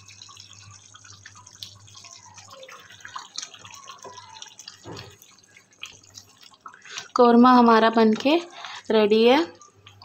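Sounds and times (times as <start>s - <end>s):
thick gravy bubbling in a pan: 0.0s - 10.0s.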